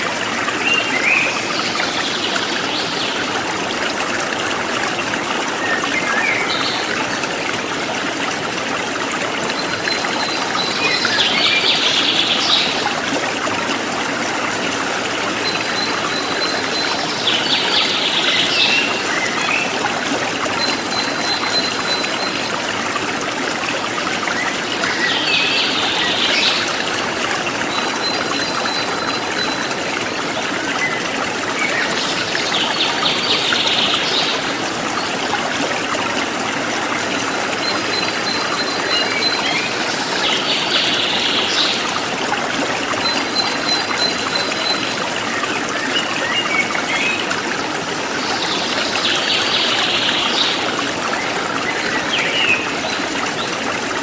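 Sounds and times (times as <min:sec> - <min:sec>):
forest stream flowing: 0:00.0 - 0:54.0.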